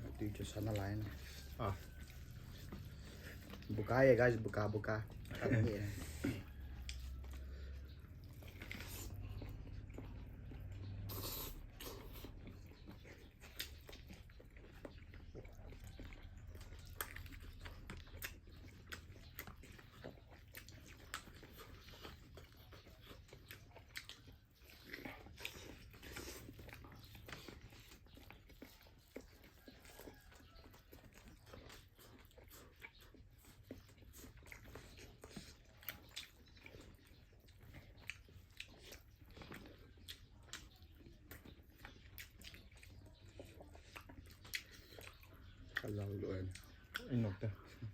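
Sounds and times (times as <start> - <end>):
chewing crunchy food: 0.0 - 47.9.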